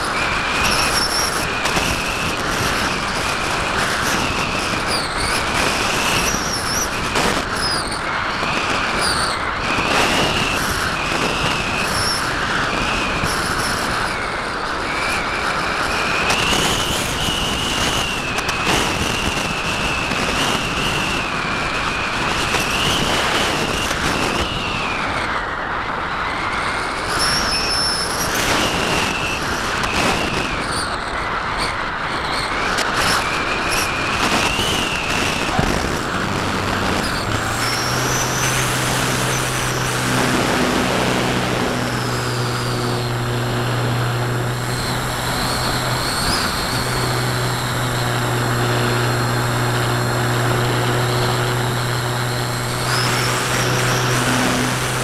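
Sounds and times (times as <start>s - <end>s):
electric motor propeller drone: 0.0s - 25.4s, 26.6s - 55.0s
wind rushing over camera: 0.0s - 55.0s.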